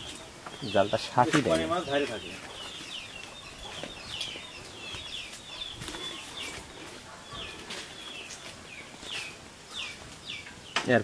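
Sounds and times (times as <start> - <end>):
faint outdoor background: 0.0 - 11.0
small birds chirping: 0.0 - 11.0.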